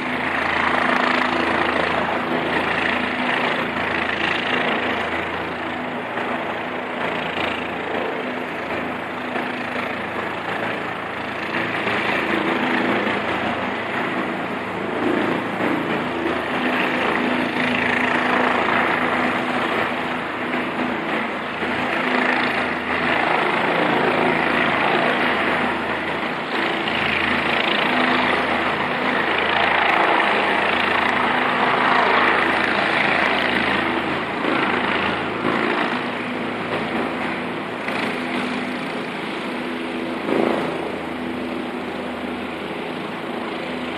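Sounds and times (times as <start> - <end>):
helicopter flying close by: 0.0 - 43.9.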